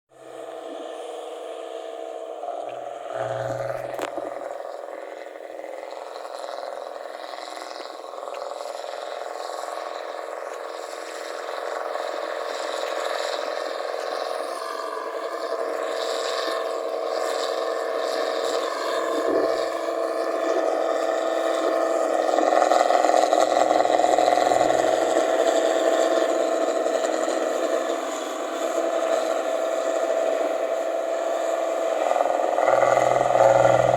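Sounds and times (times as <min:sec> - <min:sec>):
harvester engine with loud exhaust: 0:00.1 - 0:33.9.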